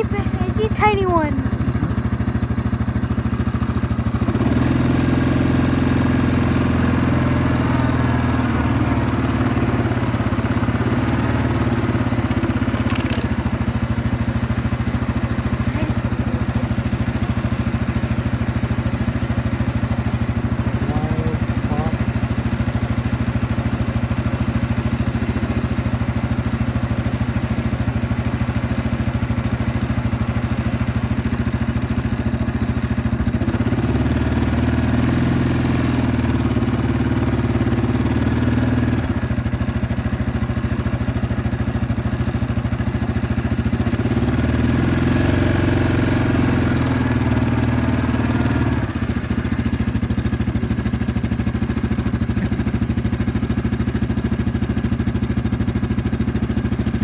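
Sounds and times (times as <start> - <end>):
atv engine idling and revving: 0.0 - 57.0.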